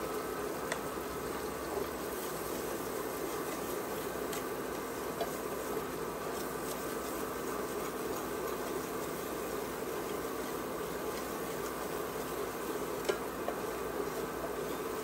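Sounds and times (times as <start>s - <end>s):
garlic sizzling in a skillet: 0.0s - 15.0s
whisk tapping a pan: 0.0s - 15.0s.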